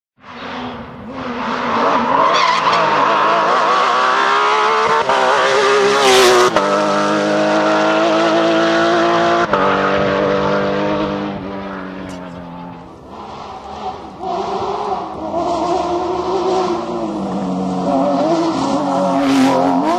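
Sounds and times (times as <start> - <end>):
rally car engine revving: 0.2 - 19.9.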